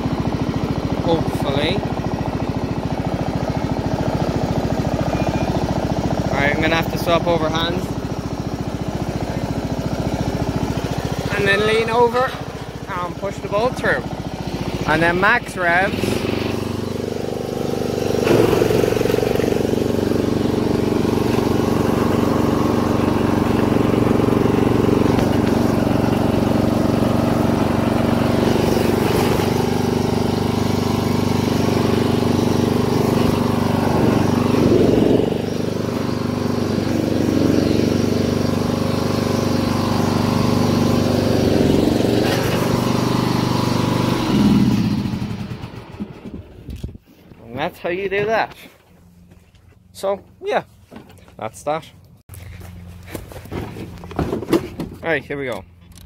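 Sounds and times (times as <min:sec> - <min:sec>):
lawn mower engine running: 0:00.0 - 0:51.4, 0:52.0 - 0:56.0.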